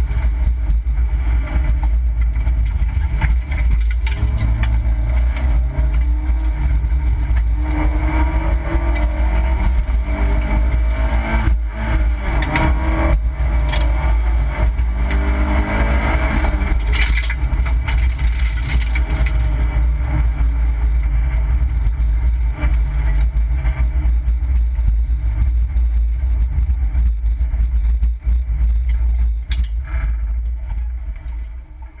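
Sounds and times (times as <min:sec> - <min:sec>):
car engine revving: 0:00.0 - 0:32.0
low road rumble: 0:00.0 - 0:32.0.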